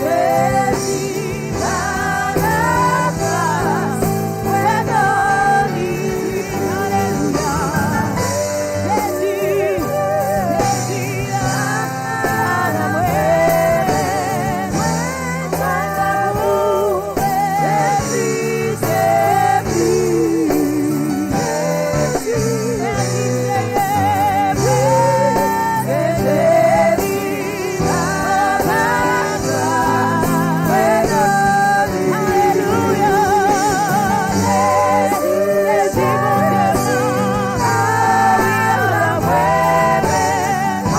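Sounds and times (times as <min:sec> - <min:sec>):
congregation singing gospel: 0:00.0 - 0:40.9.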